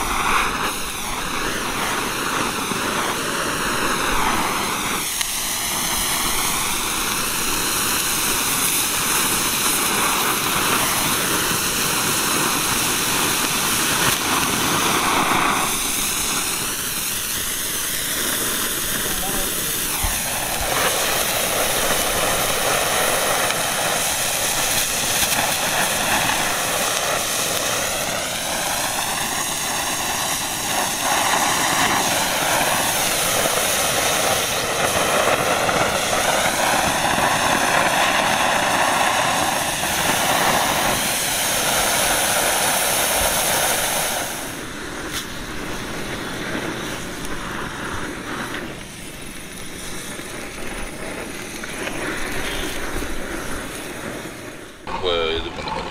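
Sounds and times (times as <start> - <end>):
firework sticks hissing: 0.0 - 55.9.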